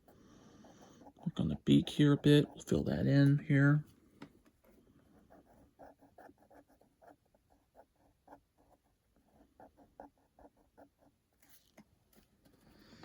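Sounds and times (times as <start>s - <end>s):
pen scratching on paper: 0.0s - 3.8s, 4.6s - 12.2s.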